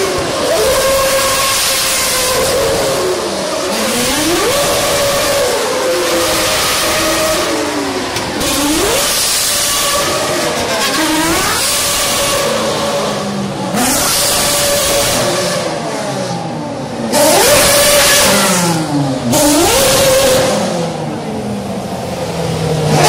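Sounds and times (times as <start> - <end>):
racing cars passing at speed: 0.0 - 23.0.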